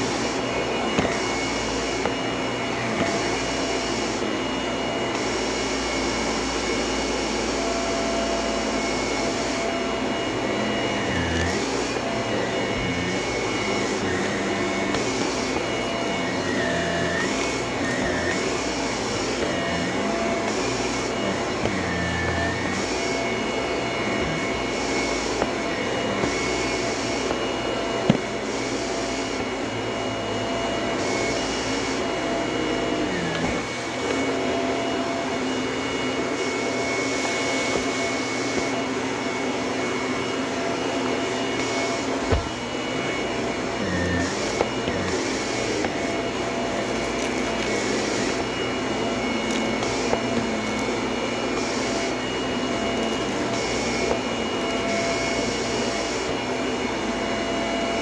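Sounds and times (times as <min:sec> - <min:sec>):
vacuum cleaner on carpet: 0:00.0 - 0:58.0.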